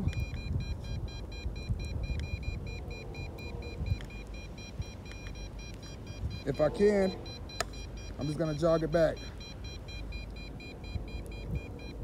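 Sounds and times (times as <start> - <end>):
wind rumble on microphone: 0.0 - 8.5, 9.6 - 12.0
transmitter rapid short high beeps: 0.0 - 12.0.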